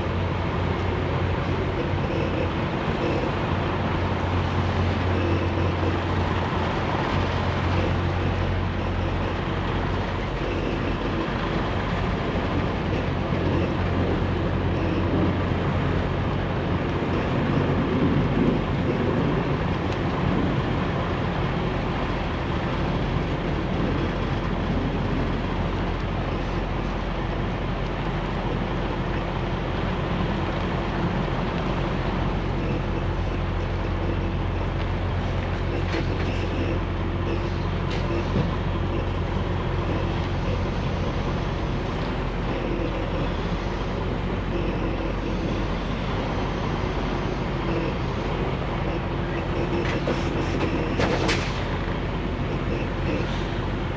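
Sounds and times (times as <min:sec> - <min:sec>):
road noise: 0:00.0 - 0:53.9
truck engine droning: 0:00.0 - 0:53.9.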